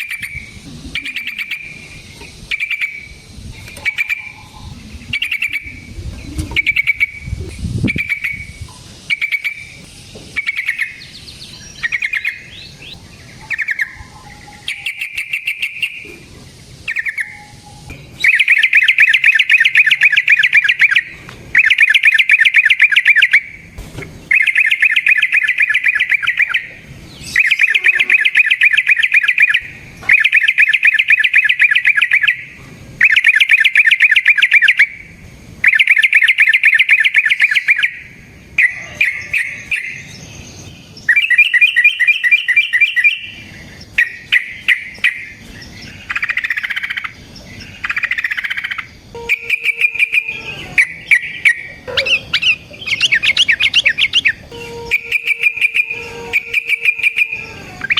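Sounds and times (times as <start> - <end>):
bird chattering phrases: 0.0 - 23.6, 24.2 - 35.0, 41.0 - 57.9
bird rapid rolling trills: 0.0 - 57.9.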